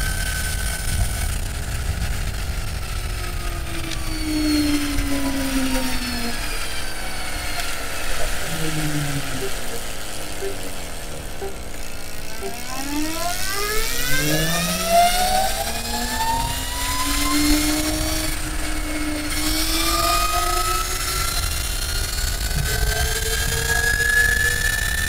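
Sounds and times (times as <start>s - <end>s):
electric scooter drive whine: 0.0s - 25.0s
road rumble: 0.0s - 25.0s.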